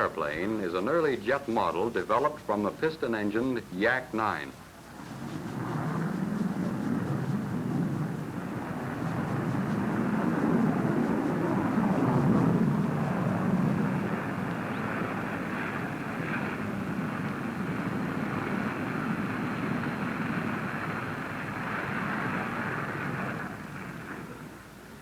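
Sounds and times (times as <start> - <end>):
jet engine roar: 0.0 - 24.7.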